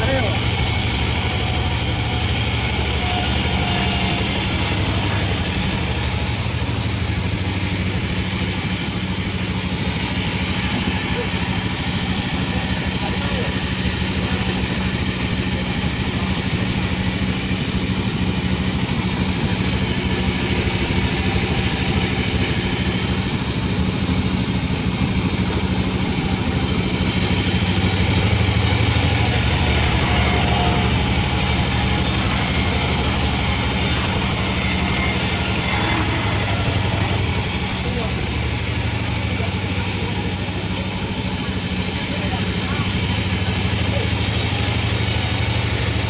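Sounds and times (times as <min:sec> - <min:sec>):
hiss: 0:00.0 - 0:37.1, 0:37.8 - 0:46.0
machine engine humming: 0:00.0 - 0:46.0.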